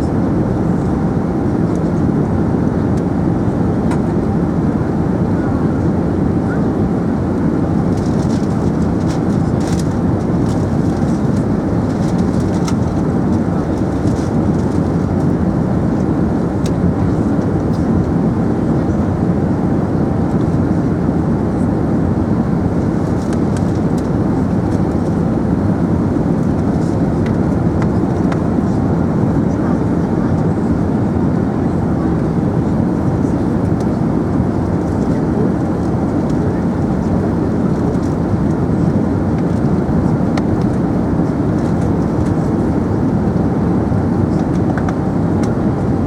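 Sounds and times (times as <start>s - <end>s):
airplane cabin rumble: 0.0s - 46.0s.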